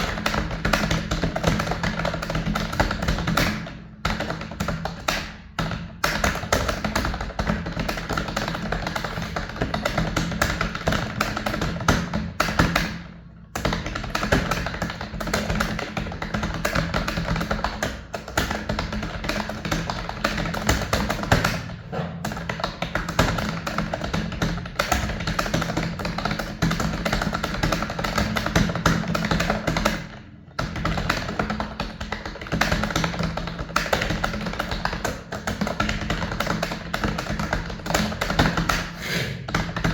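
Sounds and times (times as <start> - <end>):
typing on computer keyboard: 0.0 - 38.9.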